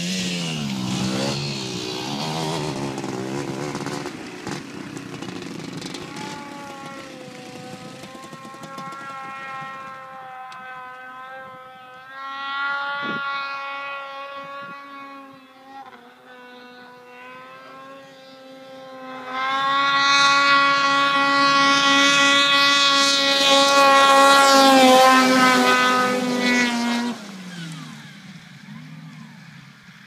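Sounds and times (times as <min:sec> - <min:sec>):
snowmobile engine passing at high revs: 0:00.0 - 0:30.0.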